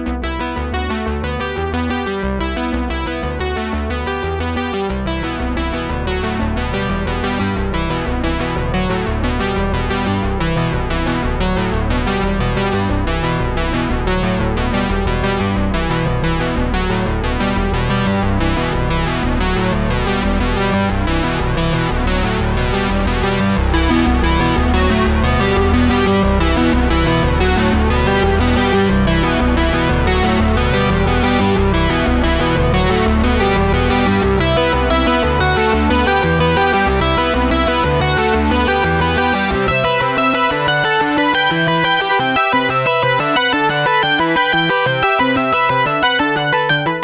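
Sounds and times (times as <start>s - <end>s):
electronic keyboard music with beat: 5.2s - 47.0s.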